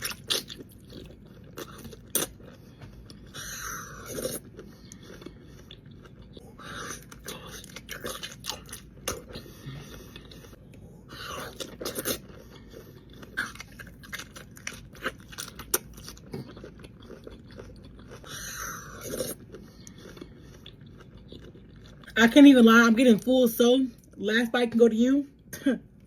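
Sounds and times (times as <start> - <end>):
person biting and chewing food: 0.0 - 22.1.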